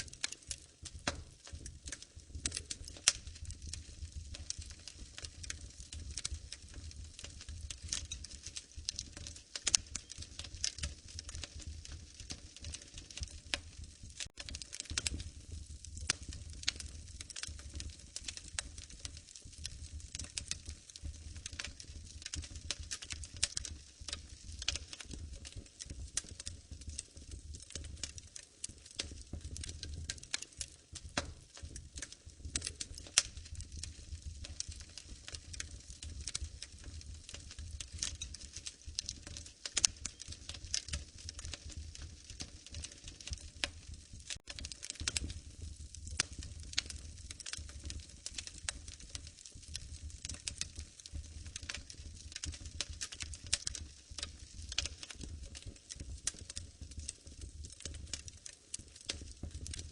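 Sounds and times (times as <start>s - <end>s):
low rumble of flames: 0.0s - 59.9s
wood fire pops and snaps: 0.0s - 59.9s.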